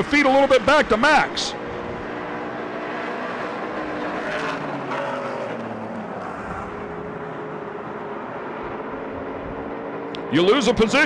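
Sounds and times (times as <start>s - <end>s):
racing truck engines: 0.0s - 11.0s.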